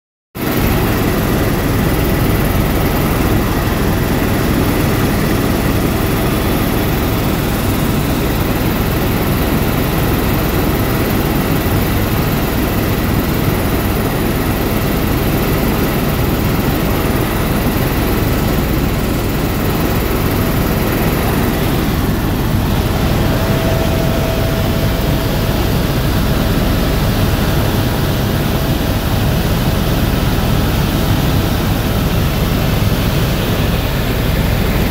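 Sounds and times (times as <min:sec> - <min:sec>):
helicopter rotor and engine drone: 0:00.4 - 0:34.9.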